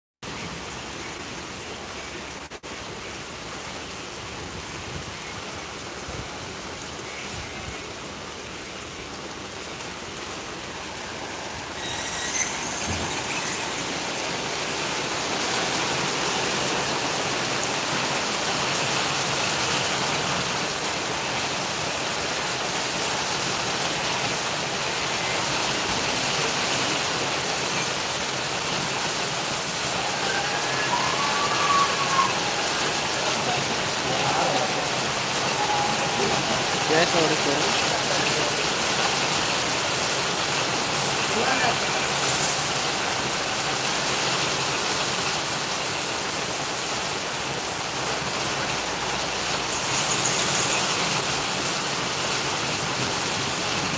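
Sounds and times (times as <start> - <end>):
rain falling on wet paving: 0.2 - 53.9.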